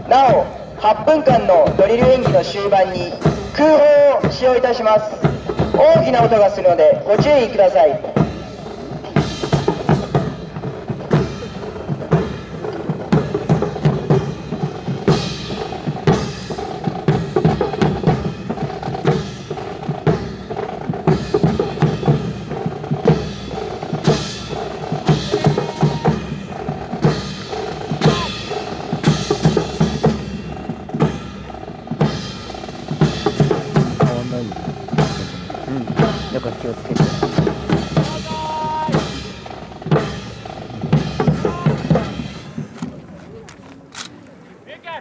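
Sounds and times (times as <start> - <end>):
marching snare and bass drums: 0.0 - 45.0.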